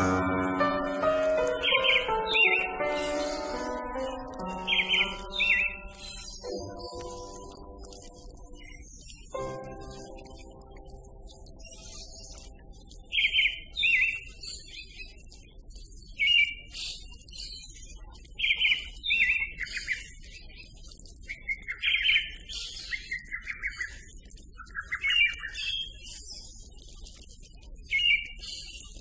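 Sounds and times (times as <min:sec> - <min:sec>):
songbird chirping and trilling: 0:00.0 - 0:29.0.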